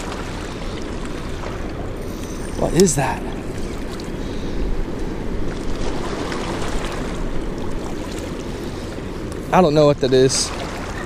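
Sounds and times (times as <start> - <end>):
wind rumble on microphone: 0.0 - 9.7
river water rushing: 0.0 - 11.0.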